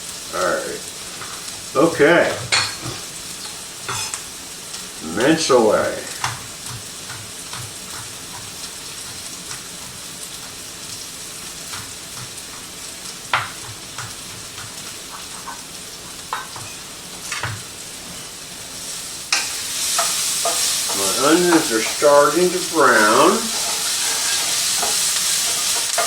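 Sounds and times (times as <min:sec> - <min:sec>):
onions and peppers sizzling in a pan: 0:00.0 - 0:26.0.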